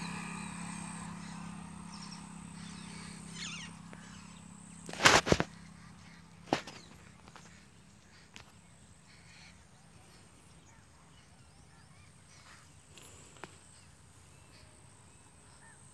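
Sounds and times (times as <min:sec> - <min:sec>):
faint bird chirps: 0:00.0 - 0:15.9.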